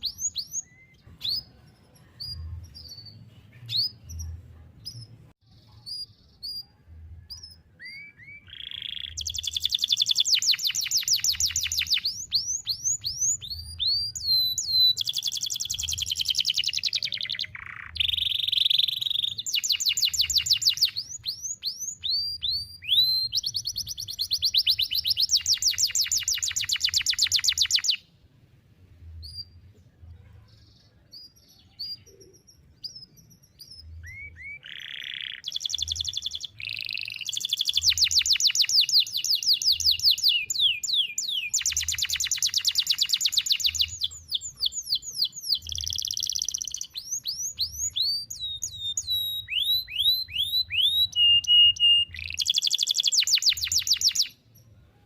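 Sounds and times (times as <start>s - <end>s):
canary singing trills: 0.0s - 28.1s, 30.4s - 54.8s
faint bird chirps: 0.0s - 28.1s, 29.1s - 55.0s.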